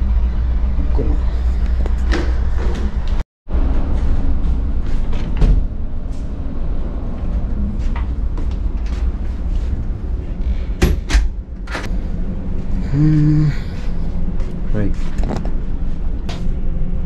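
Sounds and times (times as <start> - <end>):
low machinery hum: 0.0 - 17.0.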